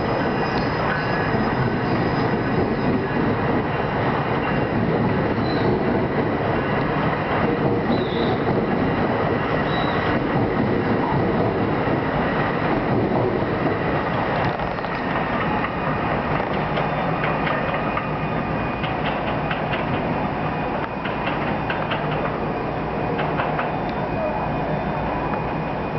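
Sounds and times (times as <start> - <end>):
wheels clicking over rail joints: 0.0 - 25.5
train cars rumbling past: 0.0 - 25.9.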